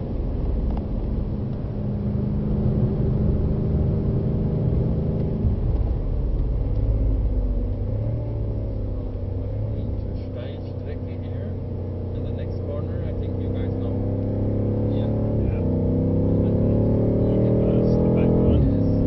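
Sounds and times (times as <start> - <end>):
car engine at high speed: 0.0 - 19.0
road noise inside car cabin: 0.0 - 19.0.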